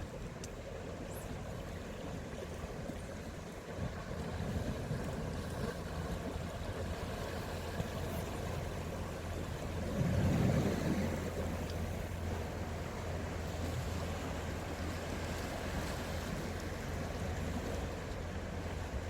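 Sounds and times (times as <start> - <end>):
low outdoor rumble at sea: 0.0 - 19.0.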